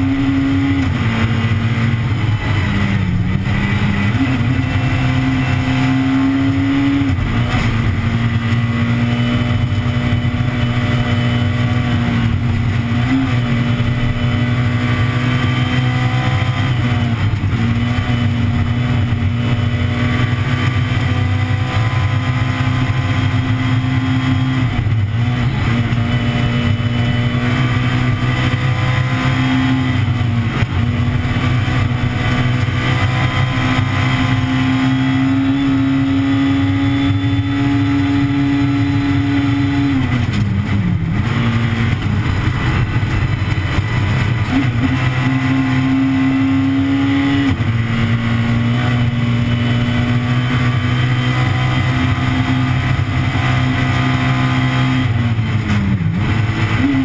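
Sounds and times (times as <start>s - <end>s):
rally car engine at high revs: 0.0s - 57.0s.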